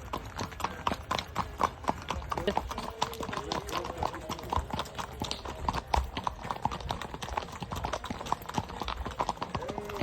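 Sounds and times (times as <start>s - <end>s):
horse hooves clip-clopping: 0.0s - 10.0s.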